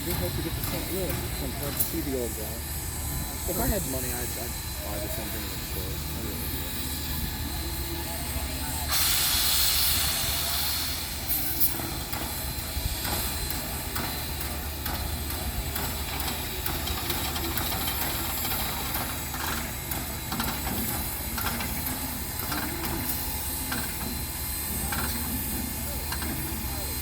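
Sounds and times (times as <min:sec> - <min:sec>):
loud steam hiss: 0:00.0 - 0:27.0.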